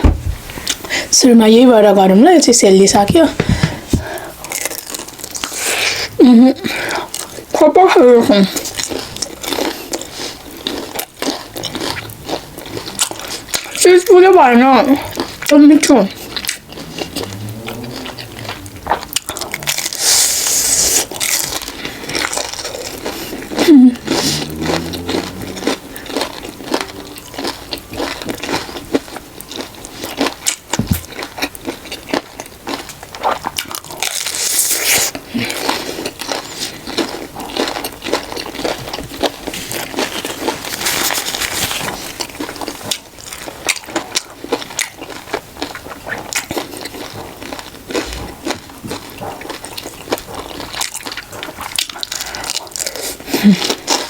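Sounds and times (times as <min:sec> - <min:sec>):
crunchy biting and wet chewing: 0:03.6 - 0:54.0.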